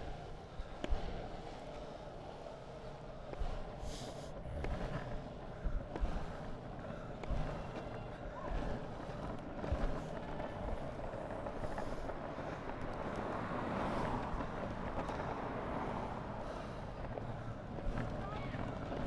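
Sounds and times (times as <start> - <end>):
longboard wheels rolling on asphalt: 0.0 - 19.0.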